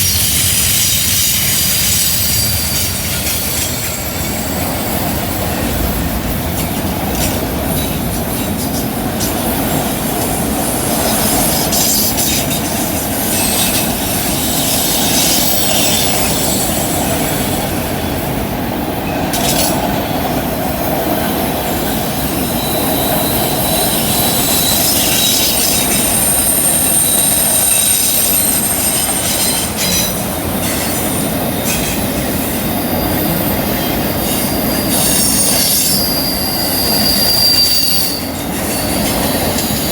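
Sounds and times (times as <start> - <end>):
wheel flanges squealing: 0.0 - 5.6, 6.6 - 18.2, 21.9 - 39.9
wheels clicking over rail joints: 0.0 - 18.0, 19.0 - 36.4
train rolling rumble: 0.0 - 39.9.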